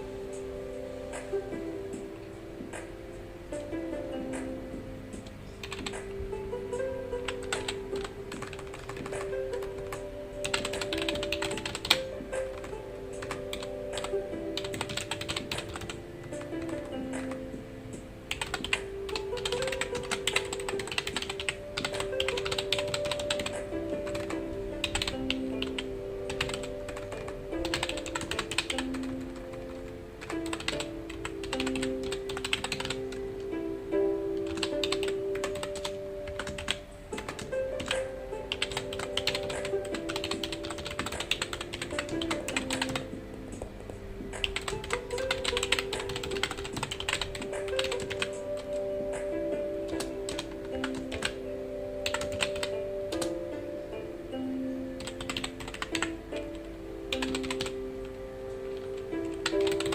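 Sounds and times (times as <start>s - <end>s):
soft background music: 0.0s - 59.9s
keyboard typing: 5.2s - 6.1s, 7.1s - 33.2s, 34.4s - 51.4s, 52.0s - 53.4s, 55.0s - 57.8s, 58.7s - 59.9s.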